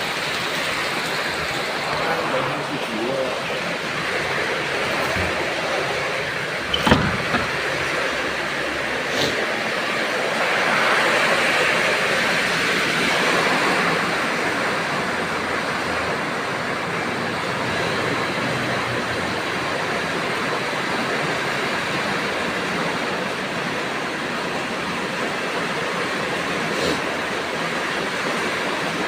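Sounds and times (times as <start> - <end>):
heavy rain in strong wind: 0.0 - 29.0.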